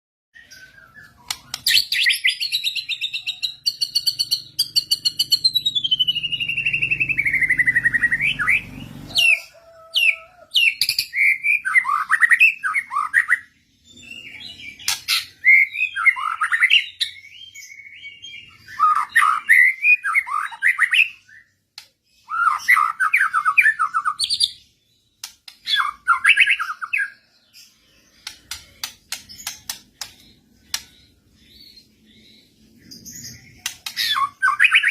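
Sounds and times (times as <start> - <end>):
songbird singing: 0.4 - 34.9.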